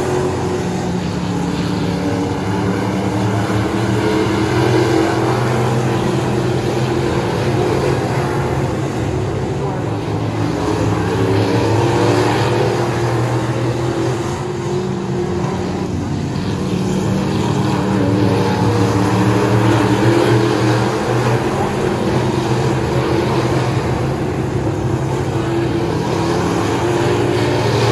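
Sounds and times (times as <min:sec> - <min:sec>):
race car engines droning: 0:00.0 - 0:27.9.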